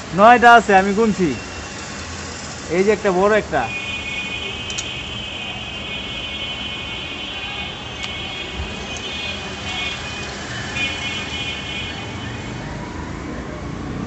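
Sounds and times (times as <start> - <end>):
roadside traffic noise: 0.0 - 14.0.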